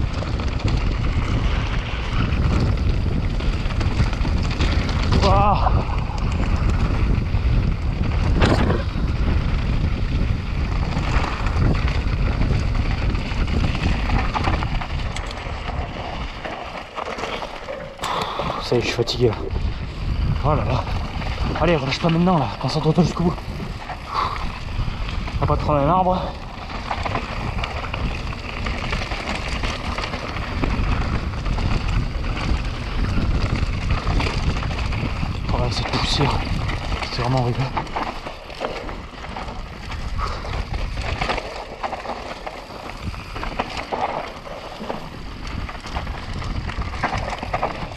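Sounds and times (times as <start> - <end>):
bike rattling: 0.0 - 47.9
tyres on rough loose ground: 0.0 - 47.9
wind buffeting microphone: 0.0 - 47.9.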